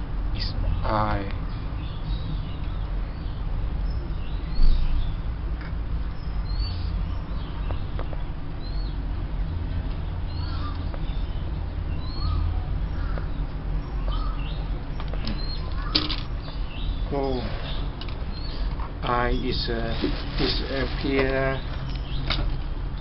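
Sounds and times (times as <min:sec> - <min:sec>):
small birds chirping: 0:00.3 - 0:23.0.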